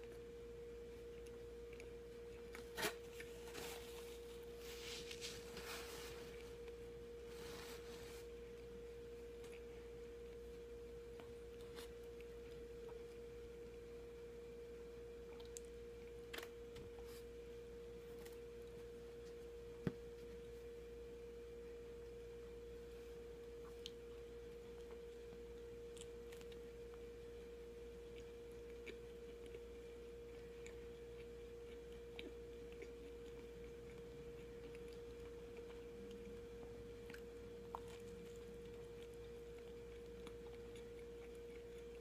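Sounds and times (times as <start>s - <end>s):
bread being handled and chewed: 0.0s - 42.0s
faint steady tone: 0.0s - 42.0s.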